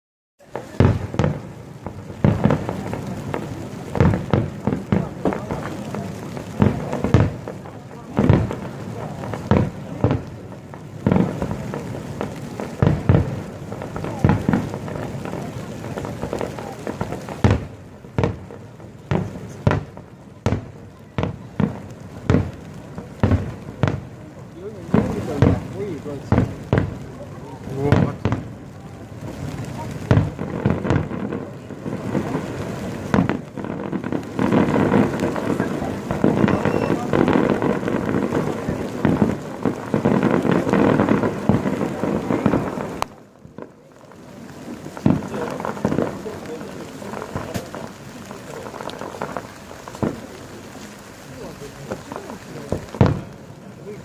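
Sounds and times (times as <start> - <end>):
fireworks bangs and booms: 0.4 - 54.0.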